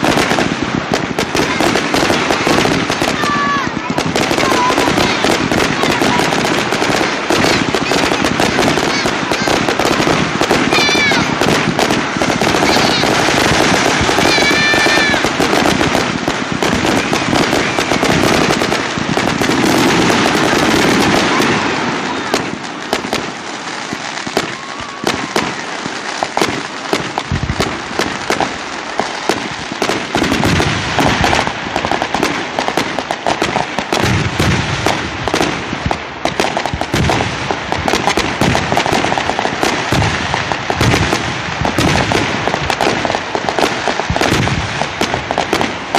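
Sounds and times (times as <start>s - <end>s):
fireworks barrage: 0.0s - 45.9s
fireworks crackling: 0.0s - 45.9s
fireworks whistling: 0.0s - 45.9s.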